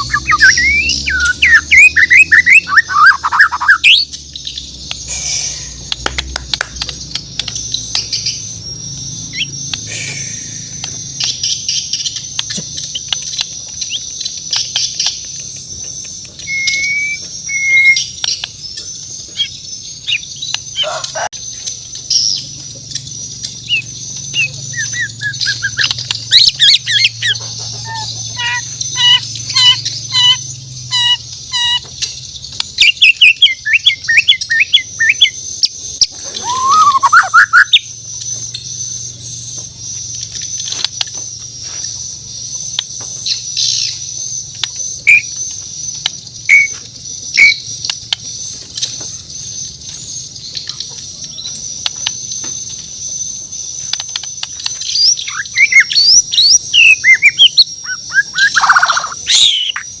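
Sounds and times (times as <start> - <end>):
bird singing whistled notes: 0.0 - 22.5, 23.2 - 60.0.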